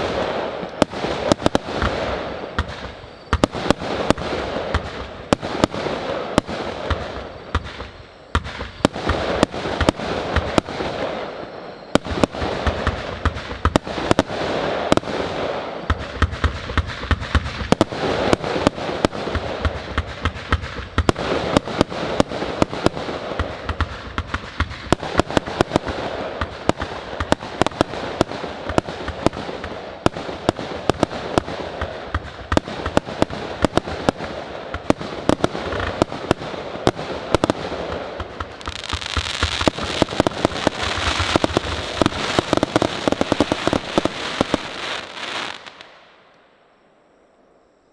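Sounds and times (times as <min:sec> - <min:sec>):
fireworks launching and bursting: 0:00.0 - 0:46.6
continuous hiss: 0:00.0 - 0:47.9.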